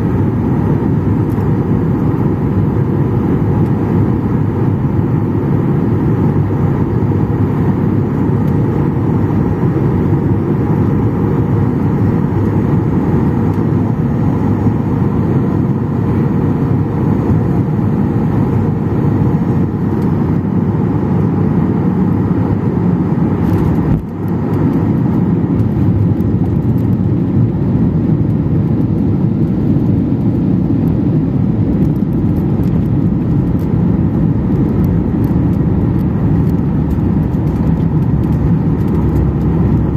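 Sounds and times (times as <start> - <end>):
aircraft cabin engine roar: 0.0 - 39.9.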